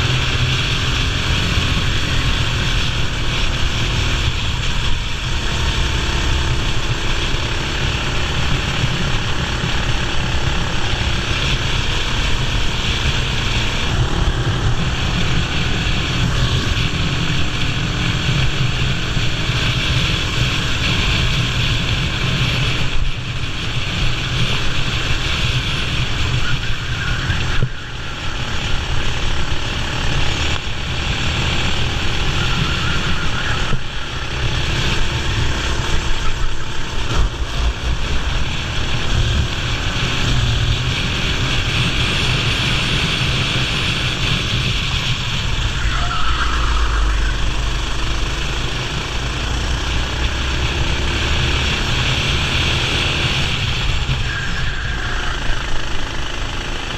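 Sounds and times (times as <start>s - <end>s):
kart engine running hard: 0.0s - 56.9s
steady rushing noise: 0.0s - 56.9s.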